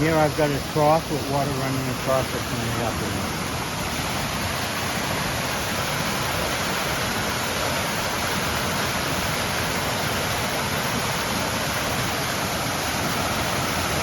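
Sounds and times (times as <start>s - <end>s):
waterfall and fountain rushing: 0.0s - 14.0s.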